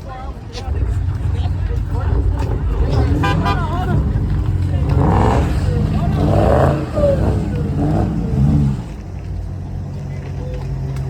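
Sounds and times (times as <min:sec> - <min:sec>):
car engine running: 0:00.0 - 0:11.0
voices: 0:00.0 - 0:11.0.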